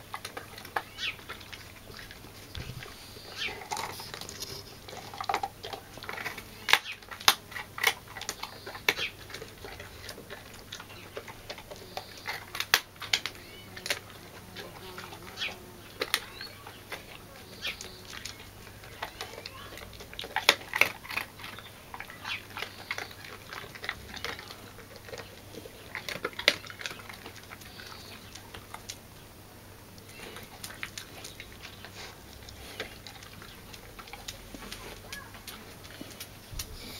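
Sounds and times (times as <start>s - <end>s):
dog crunching bread: 0.0s - 36.9s.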